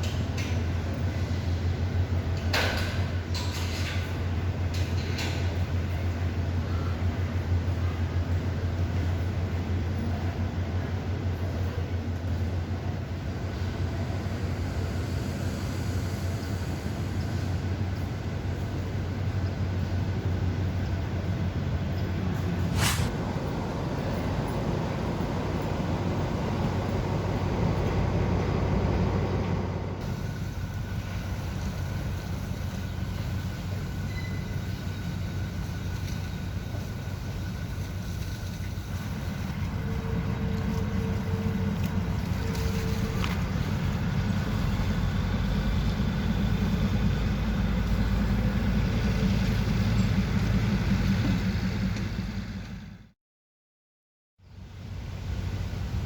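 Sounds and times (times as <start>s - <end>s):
diesel train engine rumbling: 0.0s - 53.2s, 54.4s - 56.0s.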